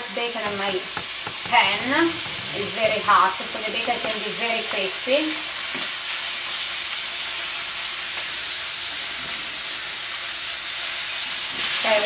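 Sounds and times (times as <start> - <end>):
bacon sizzling in a frying pan: 0.0 - 12.0.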